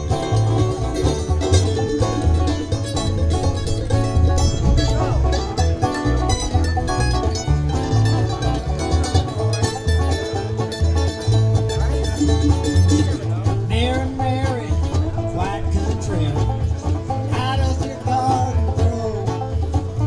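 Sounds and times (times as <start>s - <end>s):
guitar and mandolin picking: 0.0s - 20.0s
upright bass plucking: 0.0s - 20.0s.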